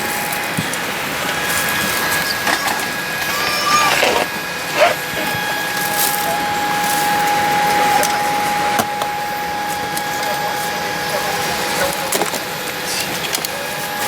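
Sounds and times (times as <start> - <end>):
cabin air-conditioning rush: 0.0 - 14.0
high whine: 0.0 - 14.0.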